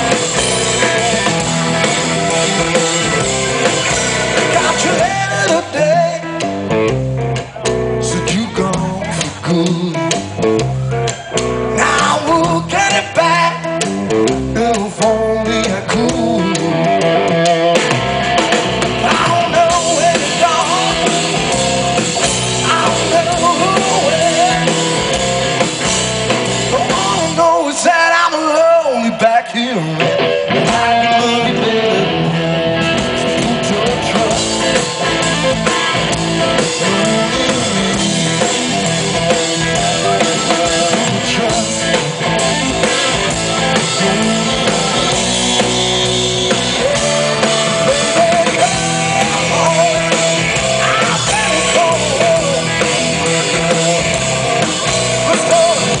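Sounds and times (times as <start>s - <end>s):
blues-rock band playing live: 0.0s - 56.0s.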